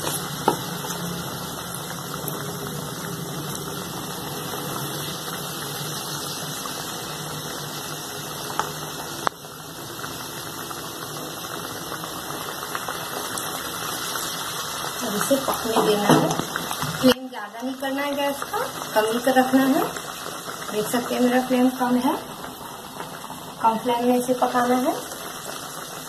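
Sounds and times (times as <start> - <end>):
batter sizzling in hot oil: 0.0 - 26.0.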